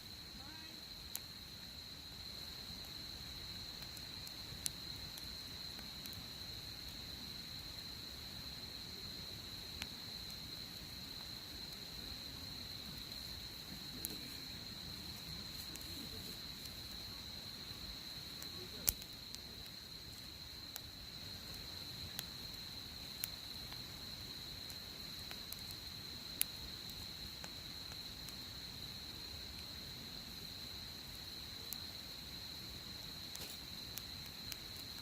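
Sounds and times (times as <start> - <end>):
campfire crackling and popping: 0.0 - 35.0
high-pitched insect trill: 0.0 - 35.0.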